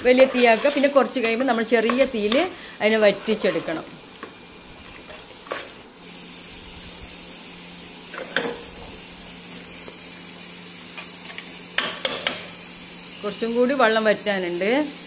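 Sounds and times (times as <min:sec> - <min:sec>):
food sizzling in pressure cooker: 0:00.0 - 0:15.0.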